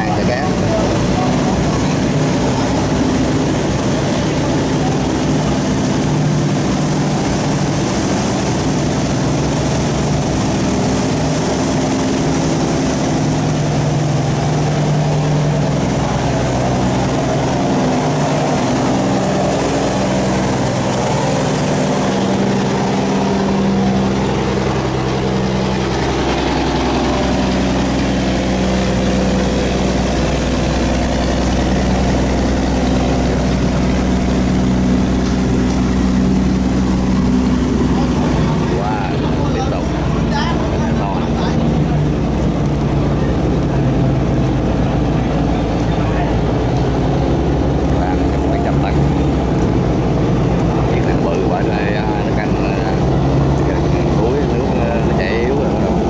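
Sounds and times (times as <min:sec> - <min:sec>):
barge diesel engine running: 0:00.0 - 0:56.0
deep low hum: 0:00.0 - 0:56.0
propeller wash churning: 0:00.0 - 0:56.0.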